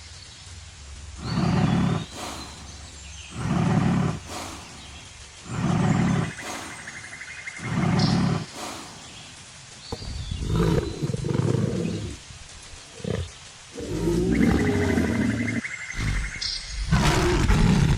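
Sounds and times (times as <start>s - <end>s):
lion grunt: 1.2s - 9.3s, 10.3s - 12.2s, 12.8s - 17.9s
lion roaring: 1.2s - 9.3s, 10.2s - 12.2s, 12.8s - 17.9s.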